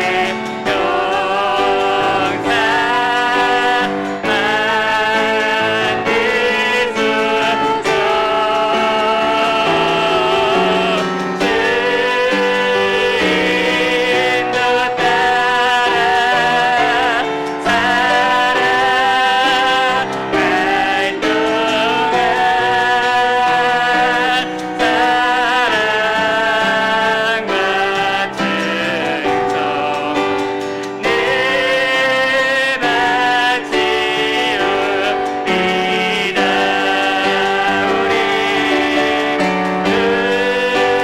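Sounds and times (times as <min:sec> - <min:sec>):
group singing a worship song: 0:00.0 - 0:41.0
piano accompaniment: 0:00.0 - 0:41.0.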